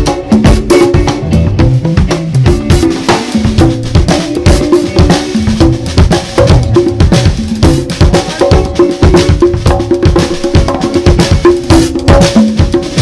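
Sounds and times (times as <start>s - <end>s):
drum kit: 0.0s - 13.0s
guitar line: 0.0s - 13.0s
live band music: 0.0s - 13.0s.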